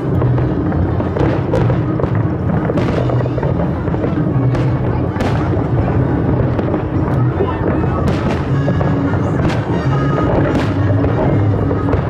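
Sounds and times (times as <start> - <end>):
fireworks bangs: 0.0 - 12.0
loud music: 0.0 - 12.0.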